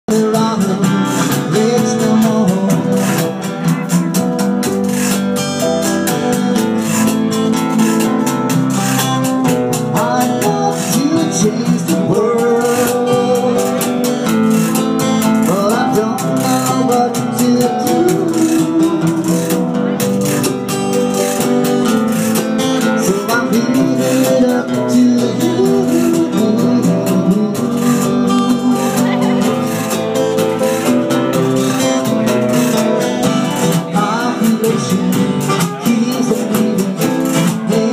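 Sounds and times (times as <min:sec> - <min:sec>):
acoustic band playing: 0:00.1 - 0:37.9.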